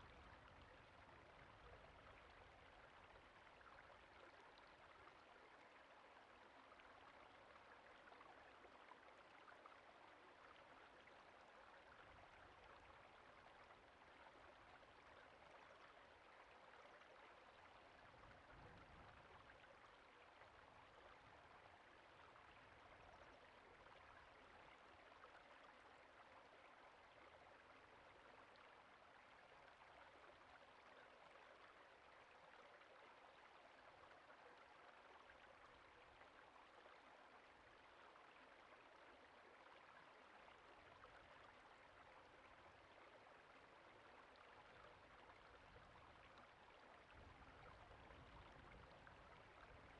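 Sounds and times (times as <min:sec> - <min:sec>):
creek water flowing: 0:00.0 - 0:49.9.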